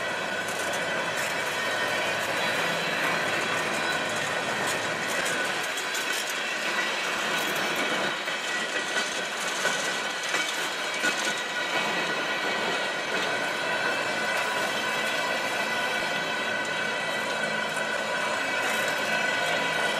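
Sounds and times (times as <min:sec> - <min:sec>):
steel wheels rolling on rail: 0:00.0 - 0:19.9.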